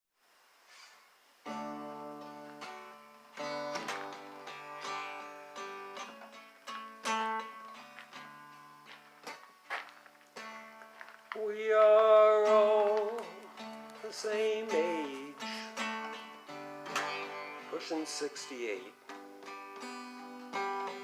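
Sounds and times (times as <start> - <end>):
acoustic guitar chords: 1.4 - 21.0.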